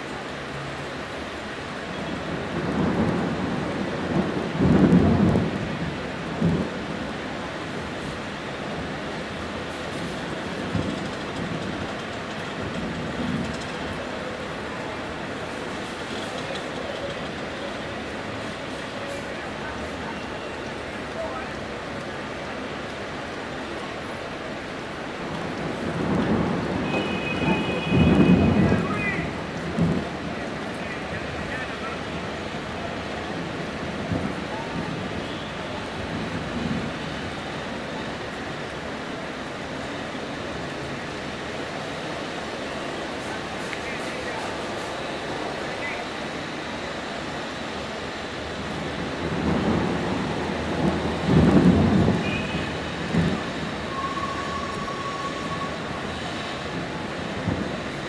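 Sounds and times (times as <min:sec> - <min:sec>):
heavy rain falling: 0:00.0 - 0:58.0
thunder rumbling: 0:01.7 - 0:20.0, 0:22.7 - 0:58.0.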